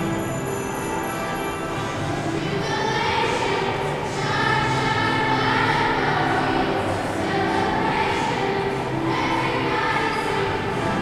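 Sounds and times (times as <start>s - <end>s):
children's choir singing: 1.9s - 11.0s.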